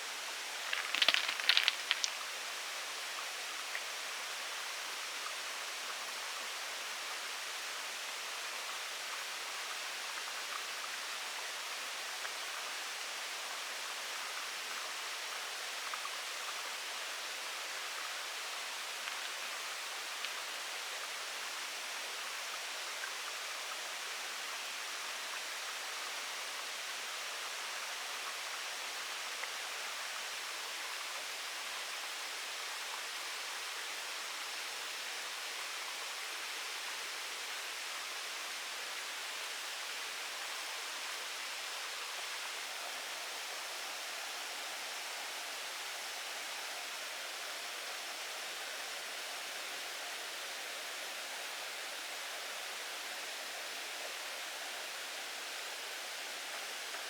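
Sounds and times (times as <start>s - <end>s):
outdoor ambience hiss: 0.0s - 57.0s.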